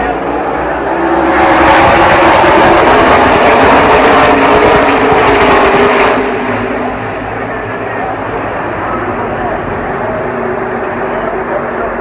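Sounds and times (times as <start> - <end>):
race cars passing: 0.0 - 12.0.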